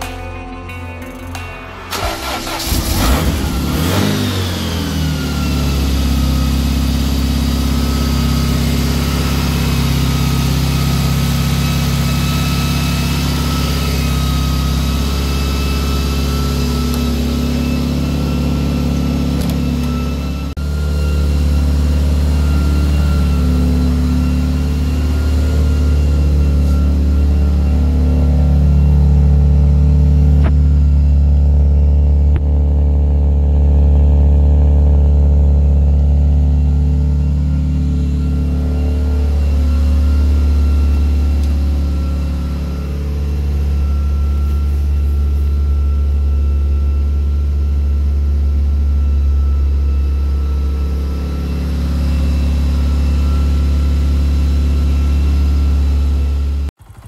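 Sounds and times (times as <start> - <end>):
car engine idling: 1.9 - 57.0.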